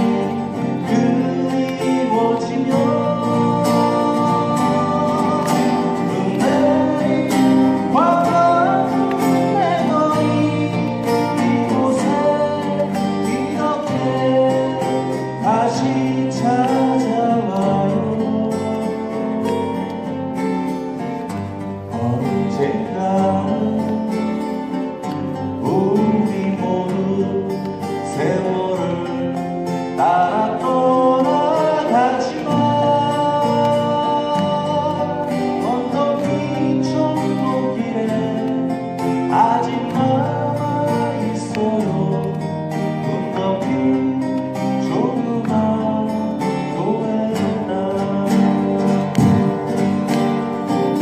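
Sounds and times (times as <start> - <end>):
acoustic guitars playing: 0.0 - 51.0.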